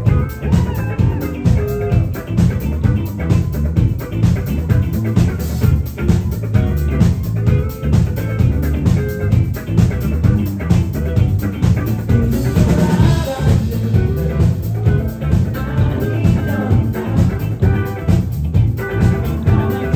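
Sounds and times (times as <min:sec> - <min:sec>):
live band playing: 0:00.0 - 0:19.9.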